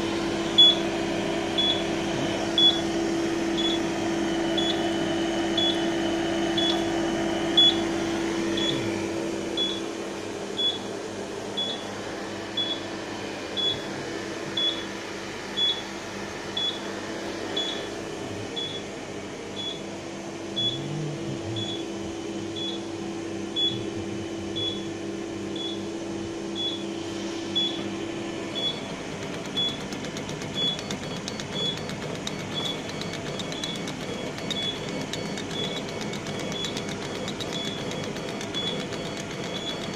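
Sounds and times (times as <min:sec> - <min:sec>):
laser cutter humming: 0:00.0 - 0:39.9.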